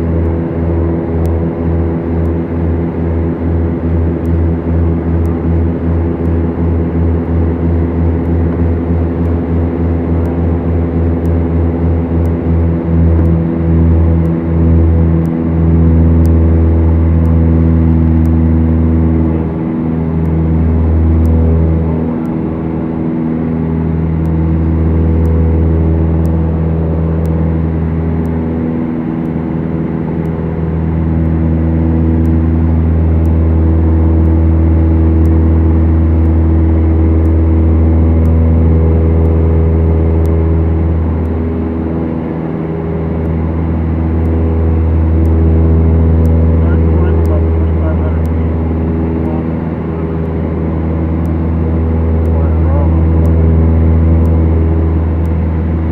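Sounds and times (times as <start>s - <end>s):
airplane engines droning in cabin: 0.0s - 55.9s.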